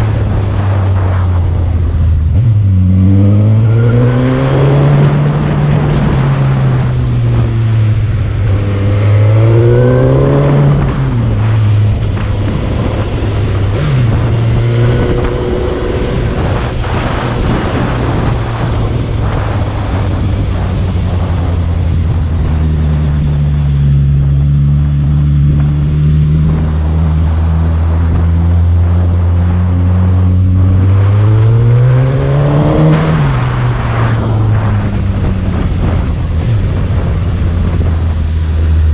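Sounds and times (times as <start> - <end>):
motorcycle engine climbing: 0.0 - 38.9.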